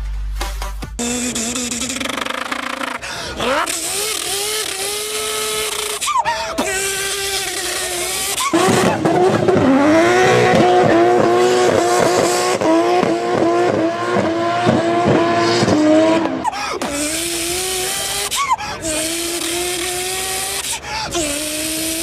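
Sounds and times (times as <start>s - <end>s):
person imitating race car engine: 1.0s - 22.0s.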